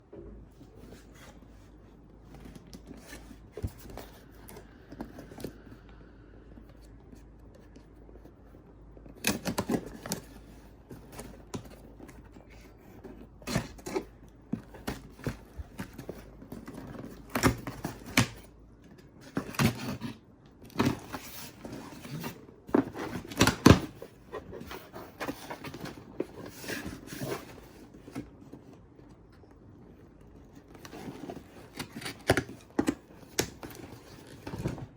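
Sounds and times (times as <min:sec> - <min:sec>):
record packaging rustling and clicking: 0:00.6 - 0:05.8, 0:06.6 - 0:34.9.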